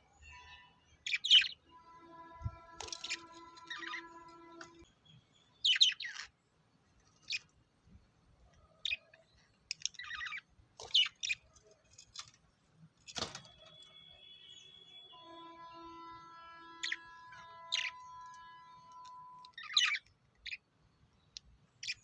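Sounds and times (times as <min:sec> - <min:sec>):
lovebirds chirping: 0:00.0 - 0:22.0.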